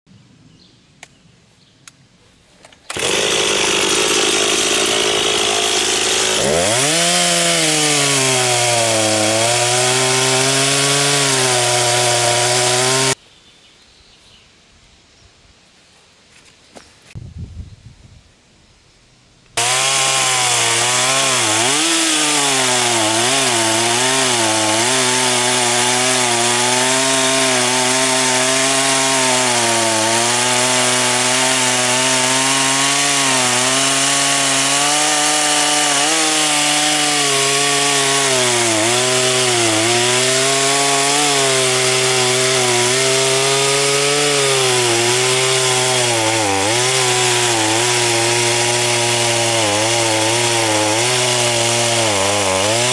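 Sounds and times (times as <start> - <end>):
chainsaw cutting wood: 2.9 - 13.2, 19.6 - 52.9.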